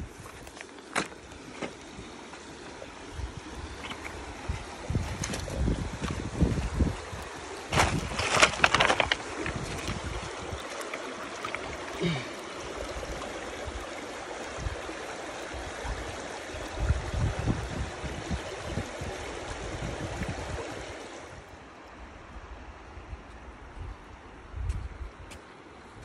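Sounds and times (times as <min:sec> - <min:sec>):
river water trickling over stones: 0:00.0 - 0:26.0.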